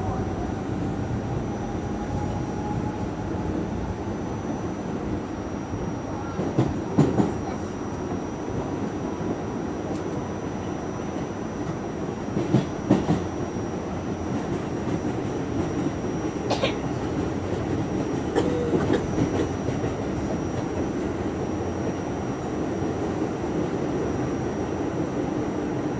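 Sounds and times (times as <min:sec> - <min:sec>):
subway train rumbling: 0:00.0 - 0:25.9.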